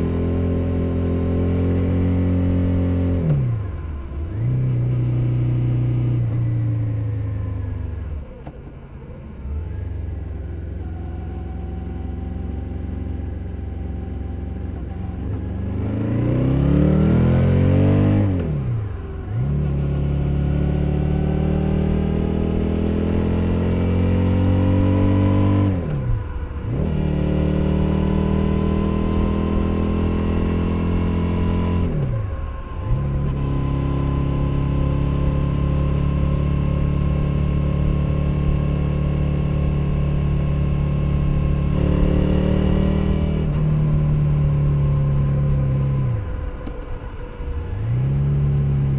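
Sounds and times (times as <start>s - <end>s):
motorcycle engine accelerating: 0.0s - 8.4s, 9.0s - 48.9s.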